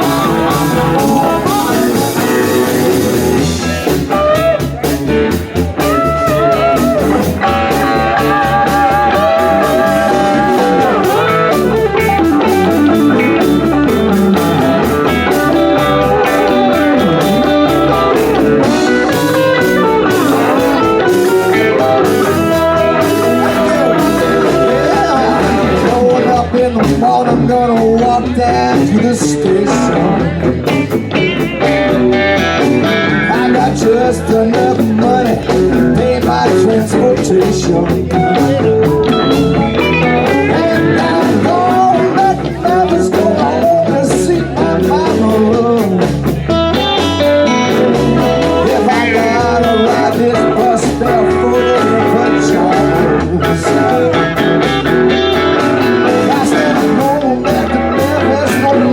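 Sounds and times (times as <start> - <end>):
electric guitar: 0.0 - 58.9
live blues-rock band: 0.0 - 58.9
steady drum beat: 0.0 - 58.9.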